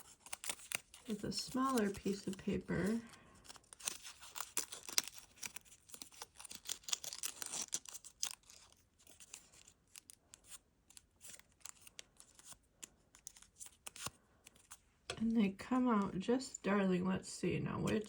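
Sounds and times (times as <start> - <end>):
paper crinkling: 0.0 - 14.8
scissors snipping paper: 0.0 - 14.8.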